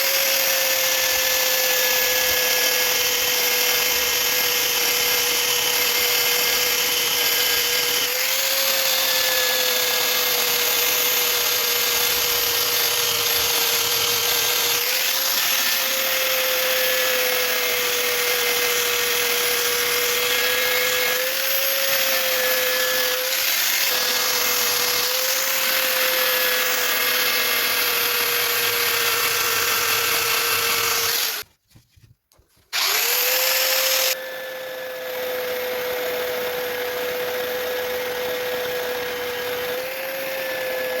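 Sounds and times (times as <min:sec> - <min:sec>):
electric belt sander running: 0:00.0 - 0:31.4, 0:32.8 - 0:41.0.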